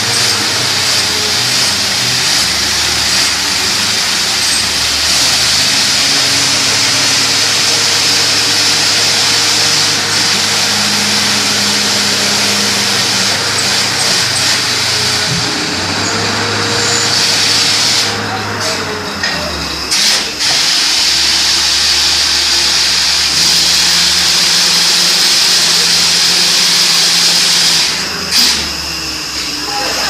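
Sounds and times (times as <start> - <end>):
drilling rig hiss: 0.0 - 30.0
rig engine drone: 0.0 - 30.0.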